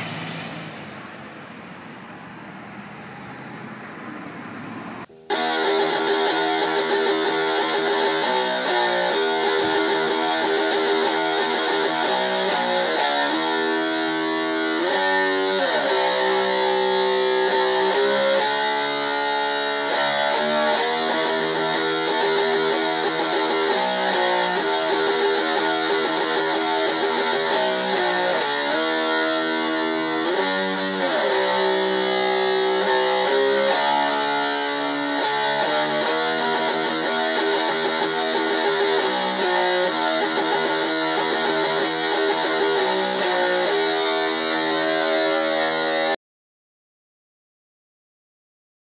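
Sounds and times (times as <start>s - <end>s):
solo guitar with sliding notes: 5.1s - 46.2s.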